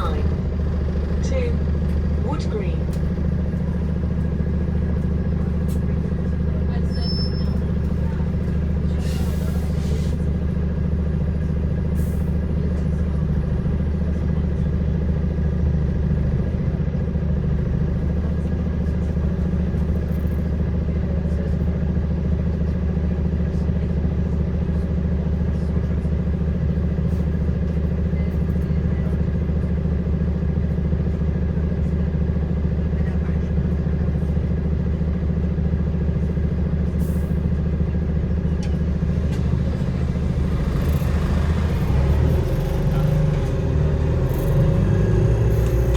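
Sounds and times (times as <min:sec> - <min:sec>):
bus droning hum: 0:00.0 - 0:45.9.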